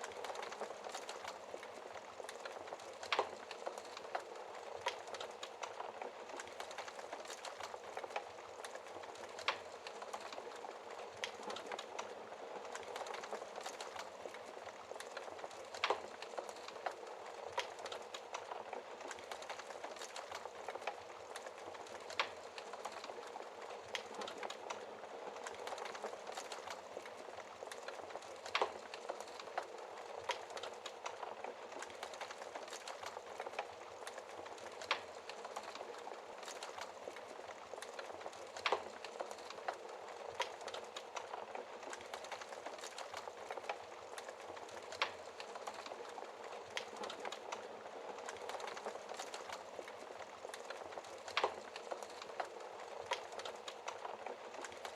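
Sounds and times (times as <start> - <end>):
fire popping: 0.0 - 54.9
wood fire crackling: 0.0 - 54.9.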